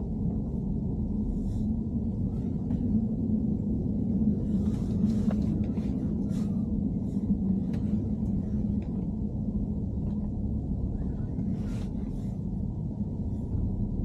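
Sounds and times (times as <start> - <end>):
low drone of engine and road: 0.0 - 14.0.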